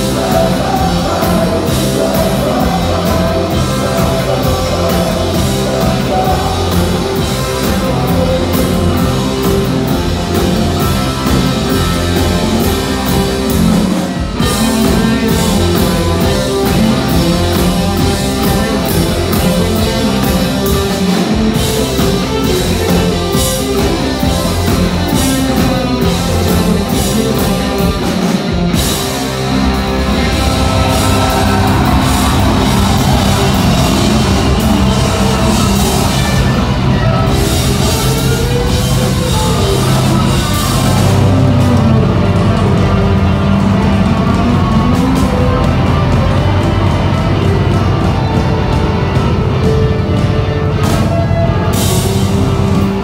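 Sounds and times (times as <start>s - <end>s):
distorted electric guitar: 0.0s - 53.0s
droning chords with sliding tone: 0.0s - 53.0s
drum kit: 0.0s - 53.0s
keyboard: 0.0s - 53.0s.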